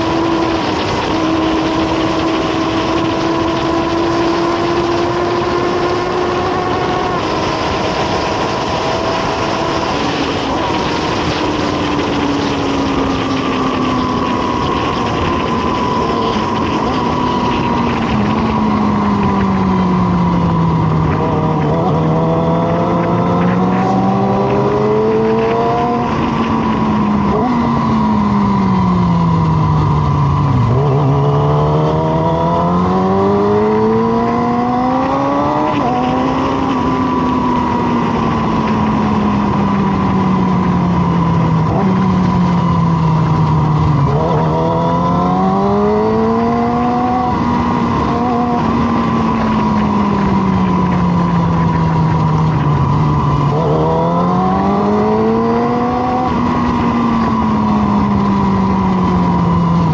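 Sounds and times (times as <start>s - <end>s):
engine revving up: 0.0s - 59.9s
motorcycle engines running: 0.0s - 59.9s
wind and road noise: 0.0s - 59.9s.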